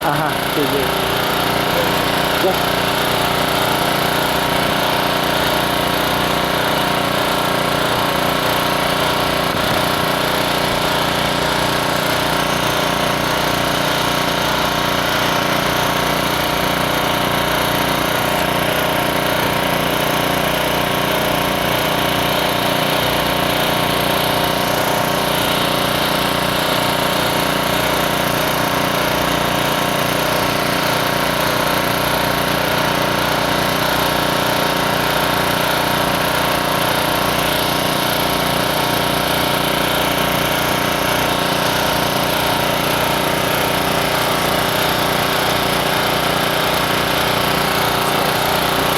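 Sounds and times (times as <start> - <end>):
welding machine motor drone with hiss: 0.0 - 48.9.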